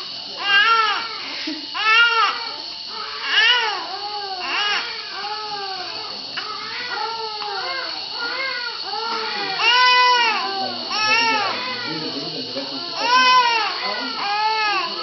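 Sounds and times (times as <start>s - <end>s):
infant crying: 0.4s - 15.0s.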